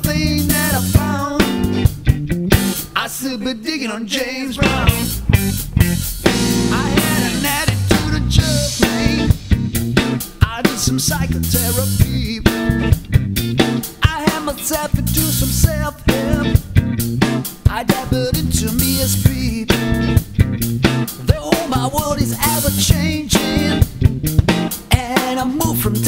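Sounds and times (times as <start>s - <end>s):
drum kit: 0.0s - 3.1s, 4.6s - 26.0s
electric bass guitar: 0.0s - 3.6s, 4.2s - 26.0s
electric guitar: 0.0s - 26.0s.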